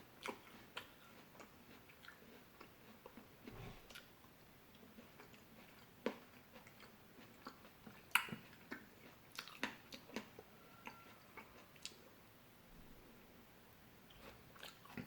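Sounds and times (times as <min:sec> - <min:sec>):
person chewing fresh fruit: 0:00.2 - 0:04.1, 0:04.8 - 0:12.1, 0:14.1 - 0:15.0.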